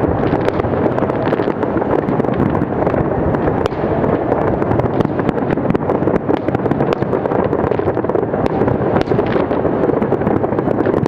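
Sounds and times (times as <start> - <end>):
fireworks bursting: 0.0 - 11.0
fireworks crackling and popping: 0.0 - 11.0.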